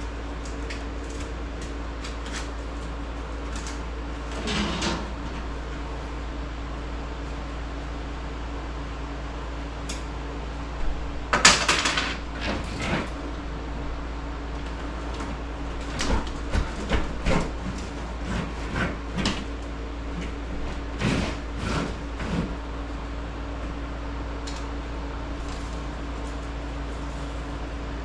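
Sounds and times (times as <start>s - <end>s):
fan hum: 0.0s - 28.0s.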